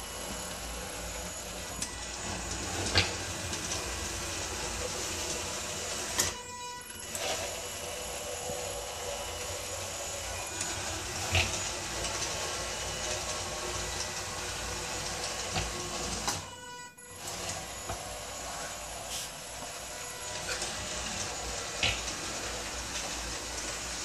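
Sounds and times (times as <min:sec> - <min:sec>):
robot cleaner motors humming: 0:00.0 - 0:24.0.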